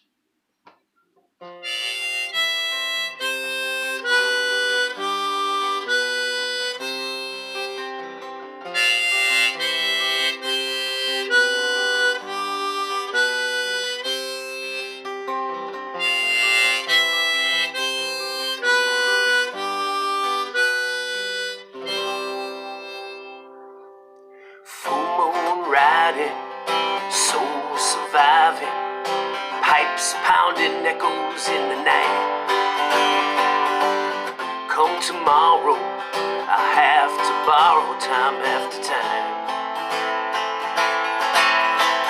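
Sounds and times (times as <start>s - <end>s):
acoustic guitar: 0.0s - 42.0s
harmonica melody: 1.4s - 42.0s.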